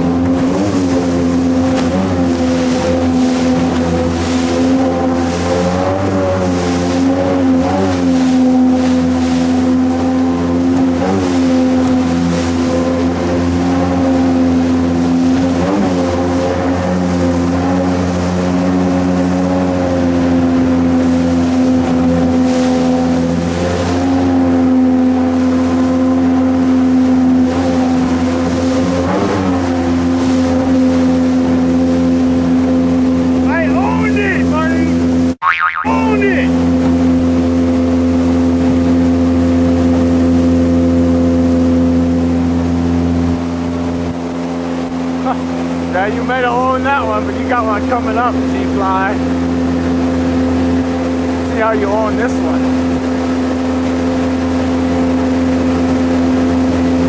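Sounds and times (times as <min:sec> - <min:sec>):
jet boat engine running: 0:00.0 - 0:57.0.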